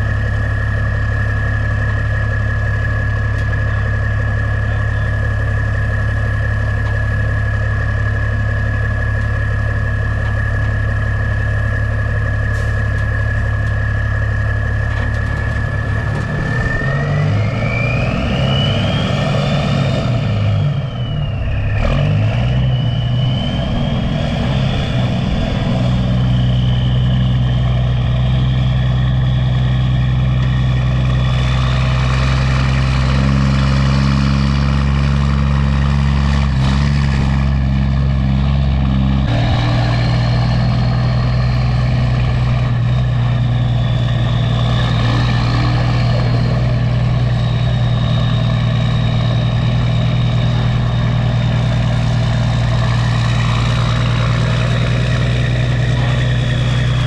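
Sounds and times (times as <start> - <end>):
diesel truck engine whining: 0.0 - 57.0.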